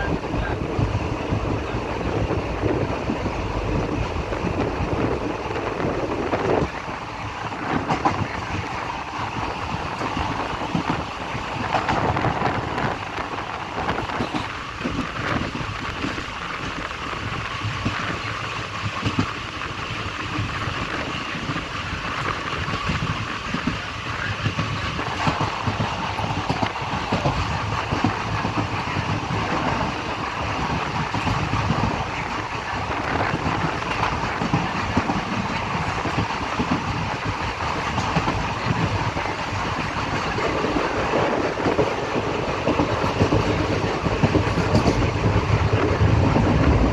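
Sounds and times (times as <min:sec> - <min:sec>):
train coach rattling: 0:00.0 - 0:46.9
wheels clicking on rails: 0:00.0 - 0:46.9.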